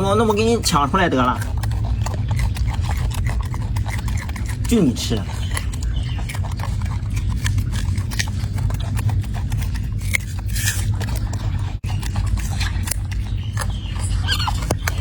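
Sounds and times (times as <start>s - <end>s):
monkeys chewing and handling food: 0.0s - 15.0s
steady low rumble: 0.0s - 15.0s.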